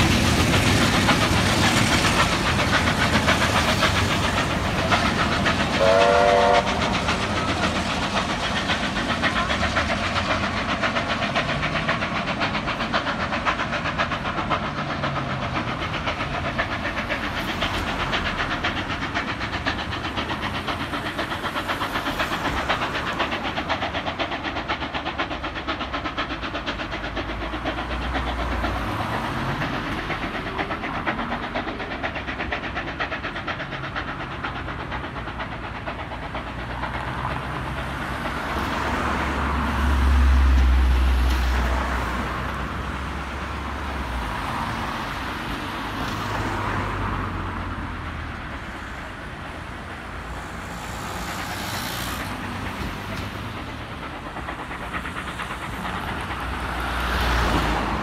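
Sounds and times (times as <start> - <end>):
steam locomotive hiss and exhaust beat: 0.0 - 58.0.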